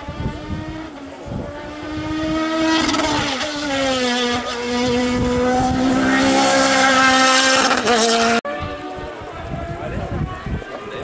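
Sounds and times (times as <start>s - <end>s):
race car engine: 0.0s - 10.0s.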